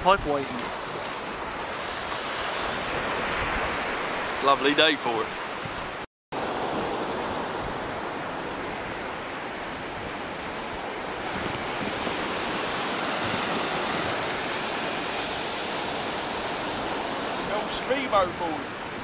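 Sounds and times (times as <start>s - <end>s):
wind on microphone: 0.0s - 4.4s, 5.3s - 19.0s
surf washing on beach: 0.0s - 19.0s.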